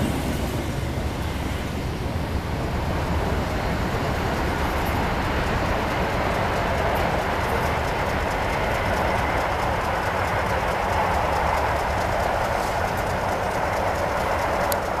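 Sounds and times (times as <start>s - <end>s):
freight train cars rolling on rails: 0.0s - 15.0s.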